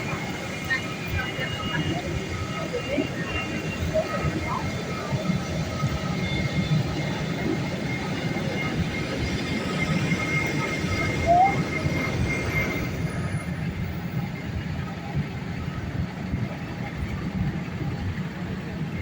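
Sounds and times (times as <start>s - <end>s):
airplane cabin rumble and hiss: 0.0s - 19.0s
faint whine tones: 0.0s - 19.0s.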